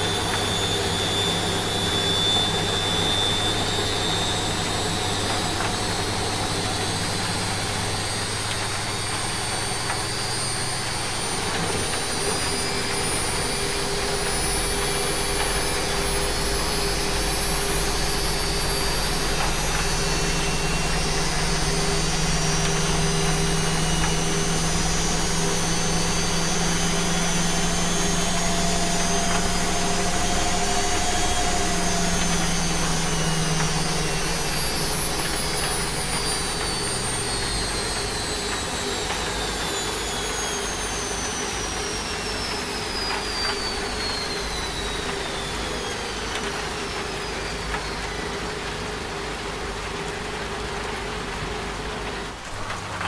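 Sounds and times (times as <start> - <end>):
washing machine drum whine: 0.0 - 53.0
washing machine motor hum: 0.0 - 53.0.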